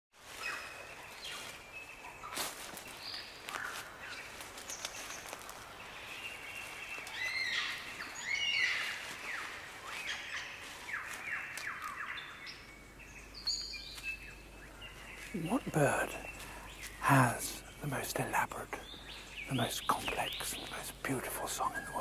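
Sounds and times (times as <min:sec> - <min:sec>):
background hiss: 0:00.3 - 0:22.0
birds singing and chirping: 0:00.3 - 0:22.0.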